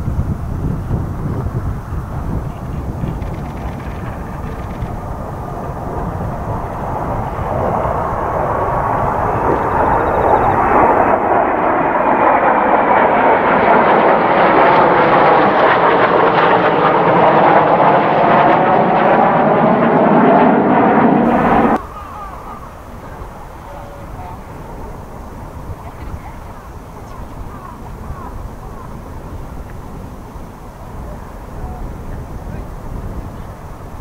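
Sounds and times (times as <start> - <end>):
jet aircraft flying past: 0.0 - 34.0.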